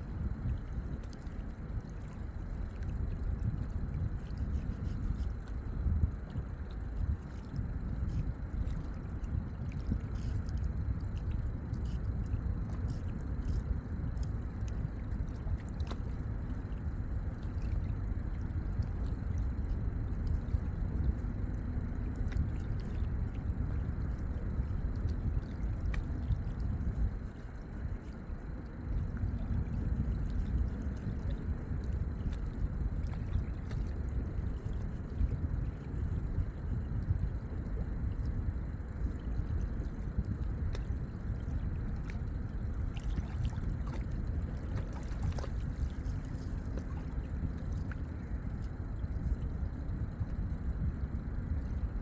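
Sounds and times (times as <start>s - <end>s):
water lapping at shore: 0.0s - 51.9s
steady low rumble: 0.0s - 52.0s.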